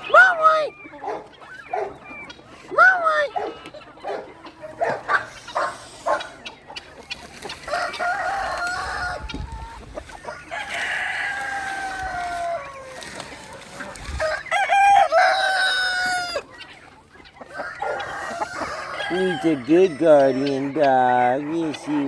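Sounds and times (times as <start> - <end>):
roosters crowing: 0.0 - 22.0.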